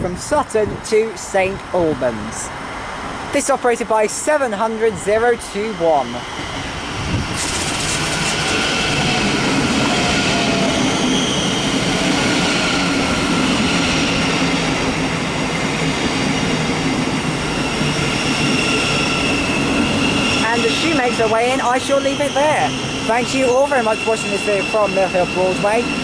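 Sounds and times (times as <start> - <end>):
train wheels rumbling on rail: 4.0 - 26.0
high steady tones from wheels: 5.0 - 26.0.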